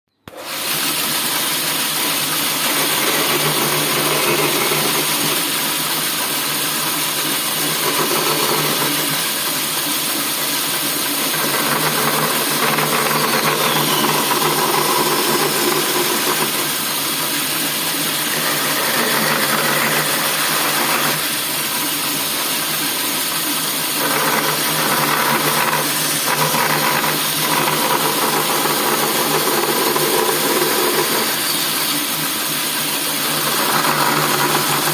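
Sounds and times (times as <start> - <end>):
bandsaw running: 0.3 - 34.9.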